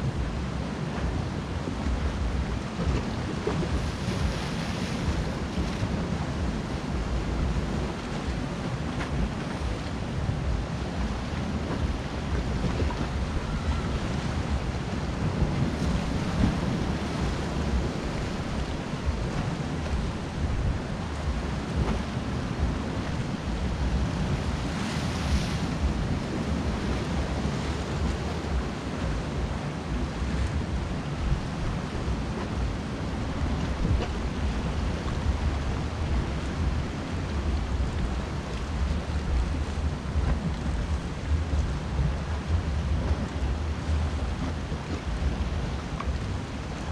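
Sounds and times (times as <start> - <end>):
surf washing over rocky shore: 0.0 - 46.9
wind rumbling on microphone: 0.0 - 46.9
wave splashing against rocks: 0.1 - 46.9.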